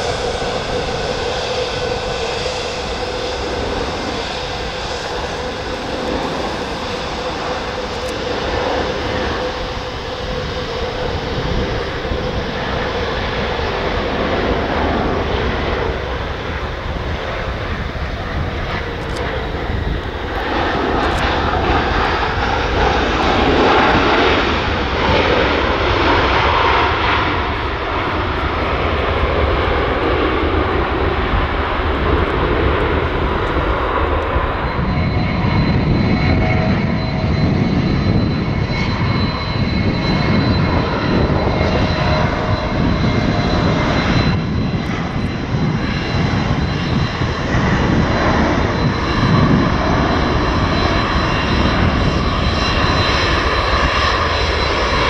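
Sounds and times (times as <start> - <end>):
jet engines on landing: 0.0 - 55.0
jet taxiing with high whine: 0.0 - 55.0.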